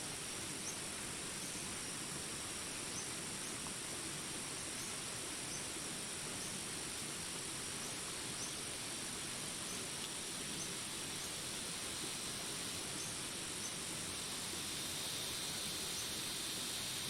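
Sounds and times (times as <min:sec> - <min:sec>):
rain hiss: 0:00.0 - 0:17.0
high insect drone: 0:00.1 - 0:17.0.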